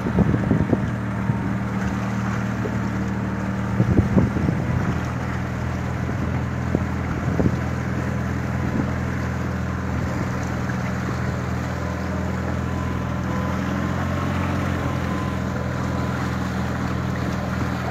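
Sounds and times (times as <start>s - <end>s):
boat engine running: 0.0s - 17.9s.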